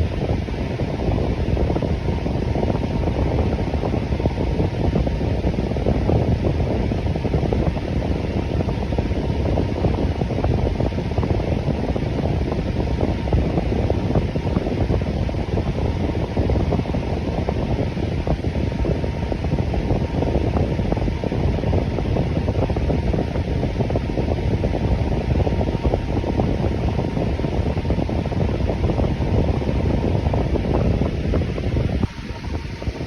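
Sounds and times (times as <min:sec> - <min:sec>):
electric fan whoosh: 0:00.0 - 0:33.0.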